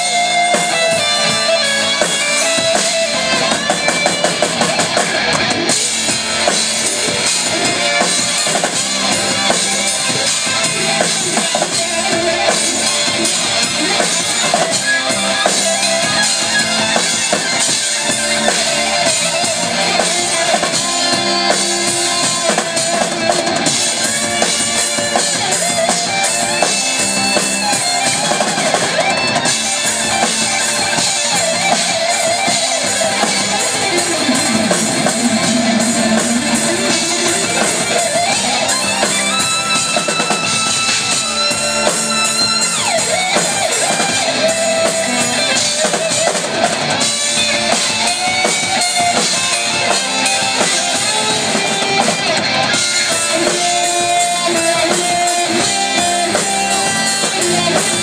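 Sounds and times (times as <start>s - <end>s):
bass guitar: 0.0s - 58.0s
drum kit: 0.0s - 58.0s
electric guitar: 0.0s - 58.0s
keyboards: 0.0s - 58.0s.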